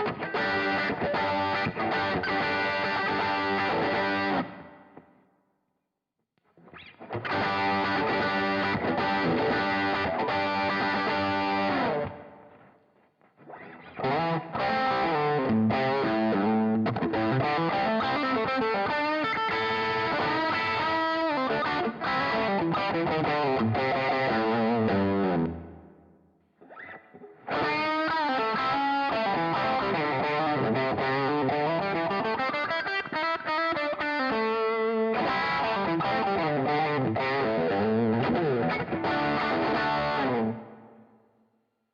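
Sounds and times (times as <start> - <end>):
overdriven electric guitar: 0.0 - 5.2, 6.4 - 41.3.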